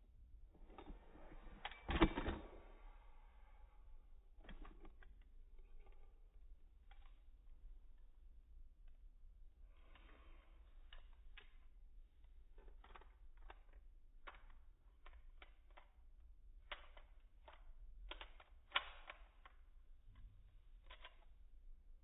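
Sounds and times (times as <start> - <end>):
faint irregular clicks: 4.3 - 22.0.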